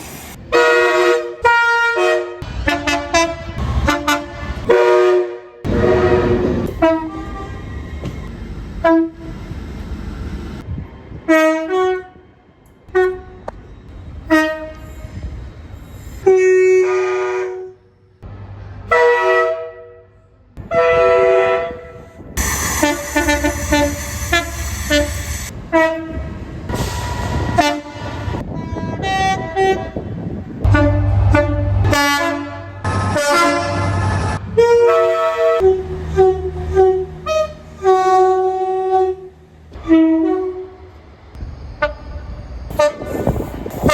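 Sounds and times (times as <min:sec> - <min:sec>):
trains rumbling: 0:00.0 - 0:43.9
train horn blasts: 0:00.5 - 0:07.6, 0:11.3 - 0:12.2, 0:12.9 - 0:13.5, 0:14.2 - 0:15.2, 0:16.2 - 0:17.8, 0:18.9 - 0:41.0, 0:41.8 - 0:43.9.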